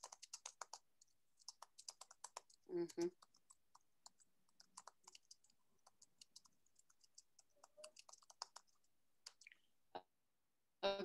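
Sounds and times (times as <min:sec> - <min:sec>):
faint keyboard typing: 0:00.0 - 0:09.6.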